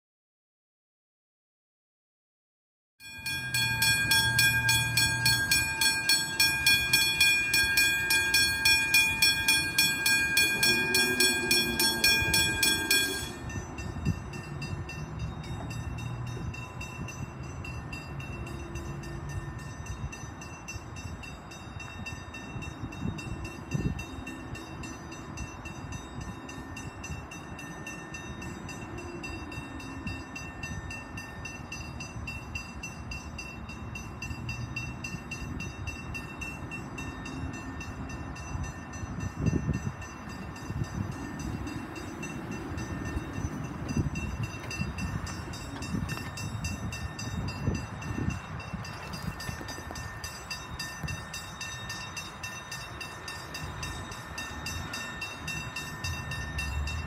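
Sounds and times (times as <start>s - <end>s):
fainter bell ringing: 3.0s - 57.0s
level crossing bells ringing: 3.0s - 57.0s.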